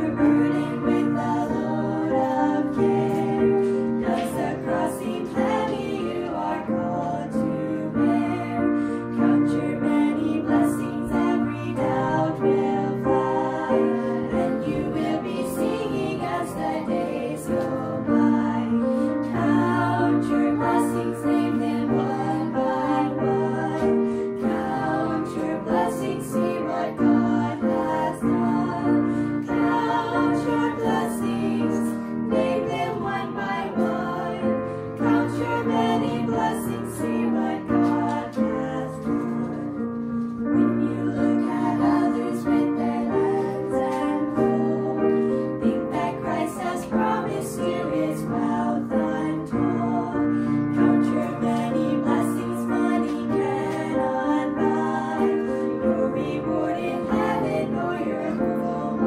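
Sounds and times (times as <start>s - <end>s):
piano accompaniment: 0.0s - 59.0s
voices singing a hymn: 0.0s - 59.0s.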